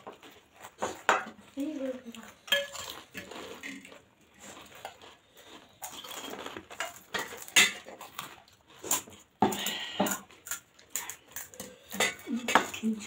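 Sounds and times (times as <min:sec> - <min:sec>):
eating sounds: 0:00.0 - 0:13.0.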